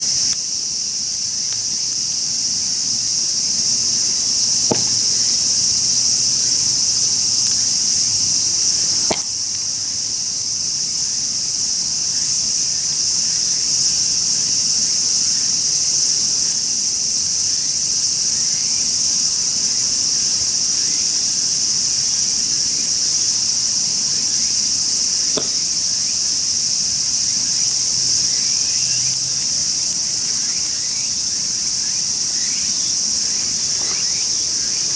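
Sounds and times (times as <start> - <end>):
insect chorus chirring: 0.0 - 34.9.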